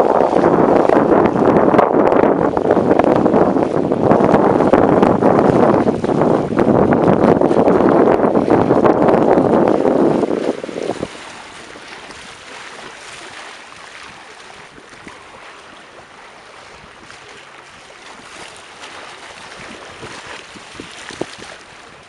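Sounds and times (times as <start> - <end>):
sea waves washing in: 0.0 - 22.0
wind gust on microphone: 0.0 - 22.0.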